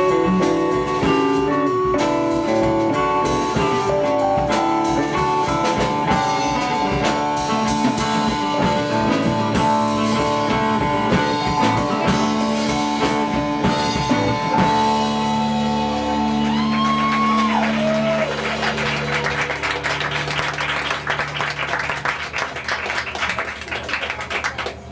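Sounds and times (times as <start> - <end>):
electric guitar chord held: 0.0 - 21.8
drum kit: 0.0 - 22.1
live rock band playing: 0.0 - 22.4.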